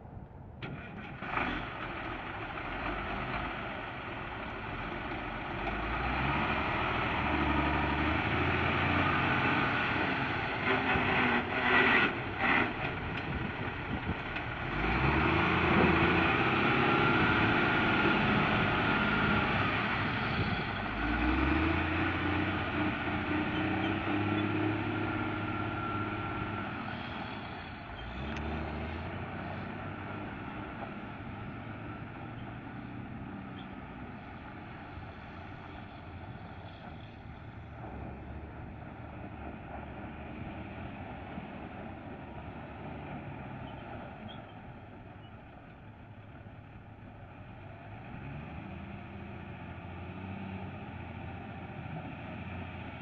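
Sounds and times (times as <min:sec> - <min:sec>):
diesel truck engine pulling away: 0:00.0 - 0:53.0.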